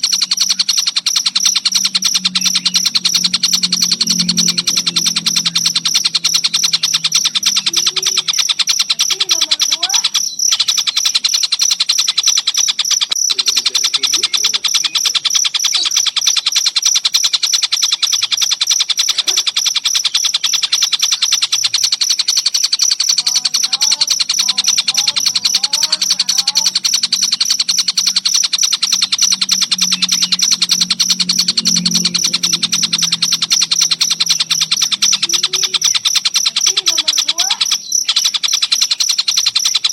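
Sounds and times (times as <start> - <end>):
crickets trilling: 0.0 - 39.9
kingfisher calls: 0.0 - 39.9.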